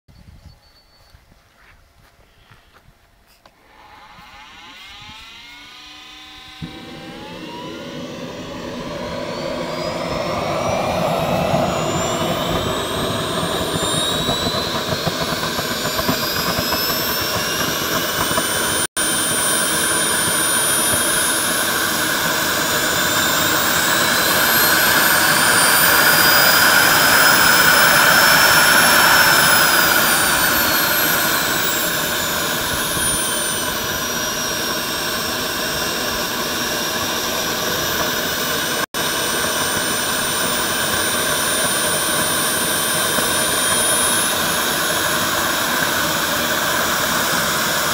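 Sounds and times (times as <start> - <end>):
gas turbine whine: 3.5 - 47.9.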